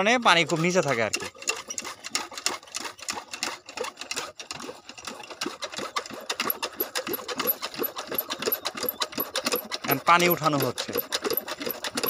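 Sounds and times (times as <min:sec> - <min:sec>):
hand pump clattering: 0:00.0 - 0:12.0.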